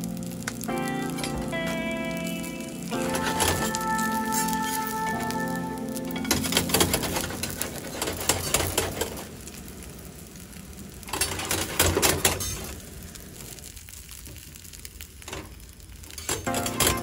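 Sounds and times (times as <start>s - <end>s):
soft sizzle: 0.0s - 17.0s.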